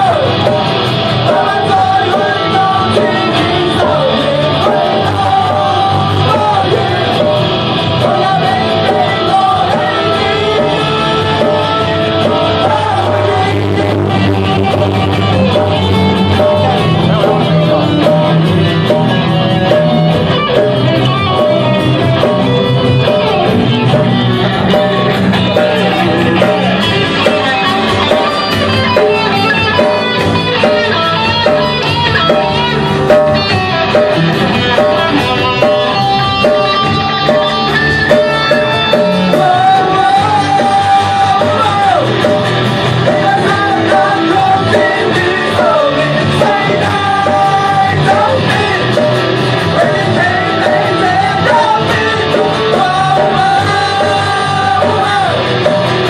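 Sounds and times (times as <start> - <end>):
live rock band playing: 0.0 - 56.0
man singing: 0.0 - 56.0
repeating guitar riff: 0.0 - 56.0.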